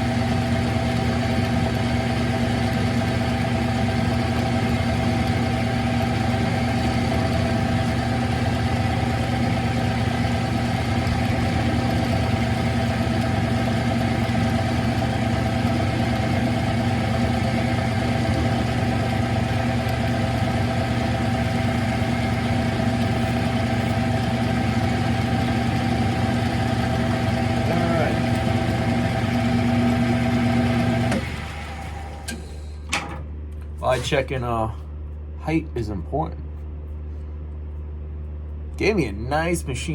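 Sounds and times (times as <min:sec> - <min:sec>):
lathe humming: 0:00.0 - 0:32.9.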